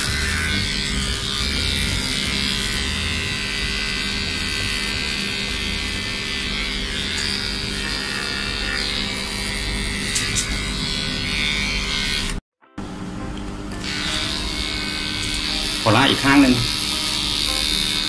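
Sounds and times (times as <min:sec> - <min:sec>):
electric pet trimmer humming: 0:00.0 - 0:18.0.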